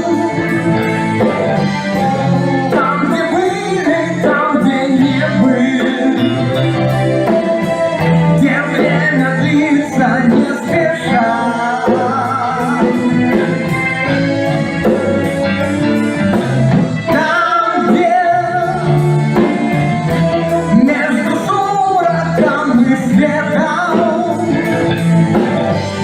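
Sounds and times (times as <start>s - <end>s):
person singing over instruments: 0.0s - 26.0s.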